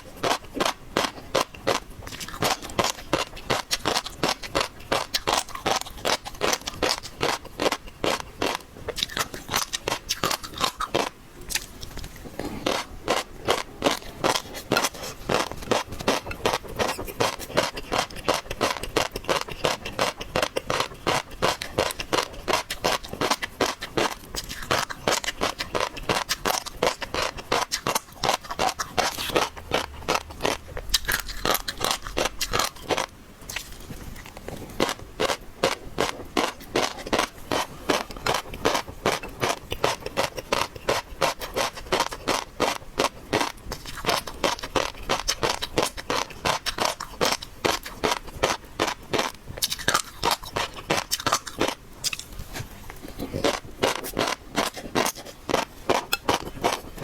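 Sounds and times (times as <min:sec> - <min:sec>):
crunching and chewing seafood: 0:00.0 - 0:57.0.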